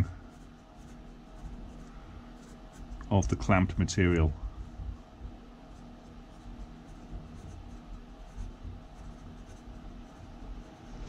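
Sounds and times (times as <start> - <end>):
marker writing on paper: 0.0 - 3.0, 4.6 - 10.8.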